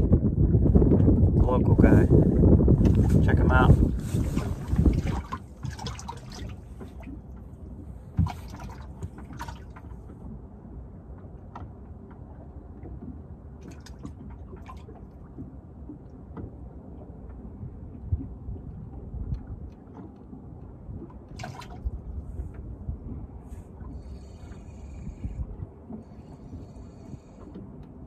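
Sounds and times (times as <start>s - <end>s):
water lapping against boat hull: 0.0s - 28.0s.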